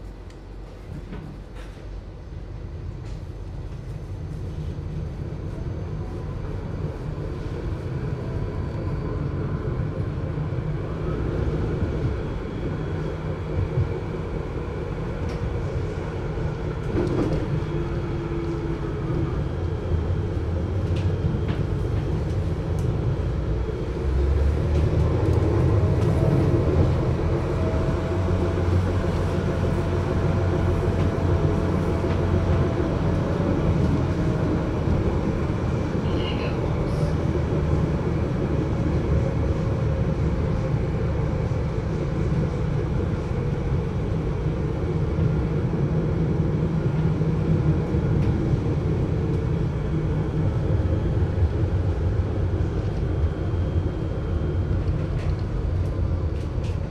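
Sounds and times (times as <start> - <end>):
tram traction hum: 0.0 - 56.9.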